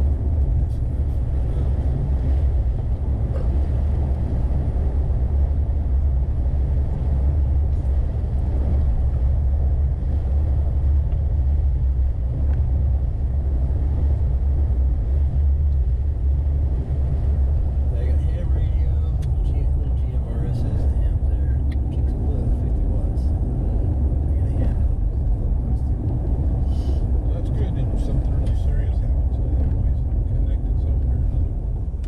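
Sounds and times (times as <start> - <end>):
vehicle interior rumble: 0.0 - 32.0.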